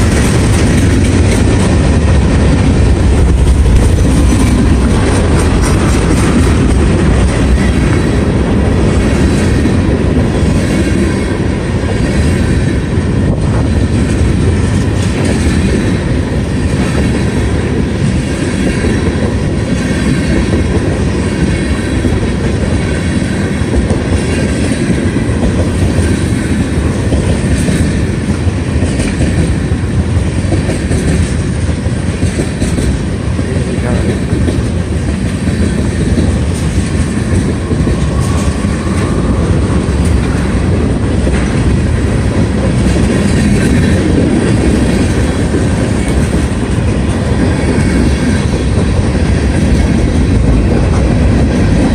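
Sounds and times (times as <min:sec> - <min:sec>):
freight train wheels on rails: 0:00.0 - 0:51.9.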